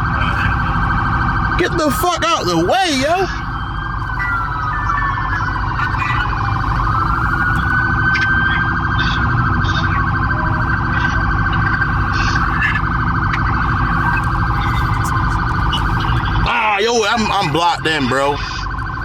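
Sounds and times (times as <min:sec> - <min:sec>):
low engine rumble: 0:00.0 - 0:19.0
police sirens wailing: 0:00.0 - 0:19.0.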